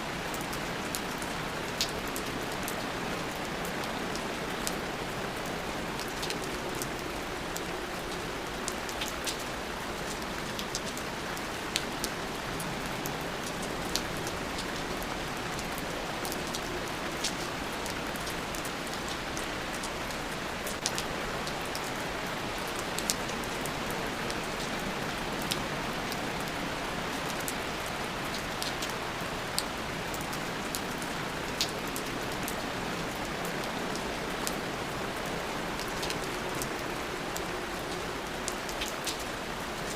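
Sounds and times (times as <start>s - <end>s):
rainfall: 0.0s - 39.9s.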